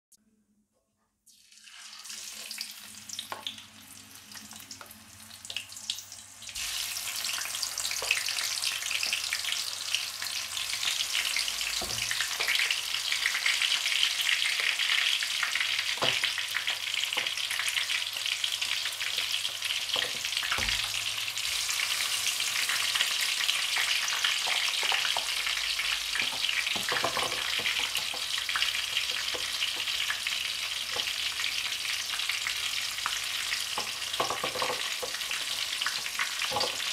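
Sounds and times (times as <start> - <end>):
tofu sizzling in hot oil: 1.3 - 36.9.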